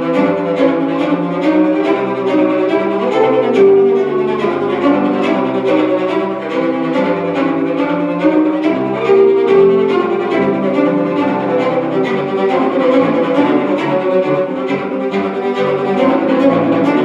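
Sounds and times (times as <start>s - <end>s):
bowed cello melody: 0.0s - 17.0s.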